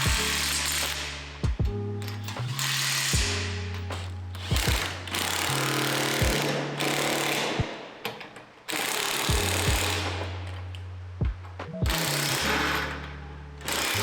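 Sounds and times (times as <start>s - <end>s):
power tool hammering rattle: 0.0s - 14.0s.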